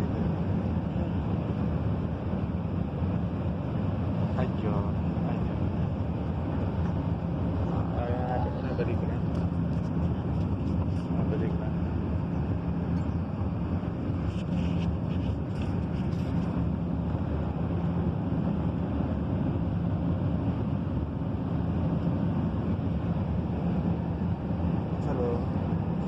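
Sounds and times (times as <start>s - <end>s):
airliner engines and airflow rushing: 0.0s - 26.0s
low hum: 0.0s - 26.0s.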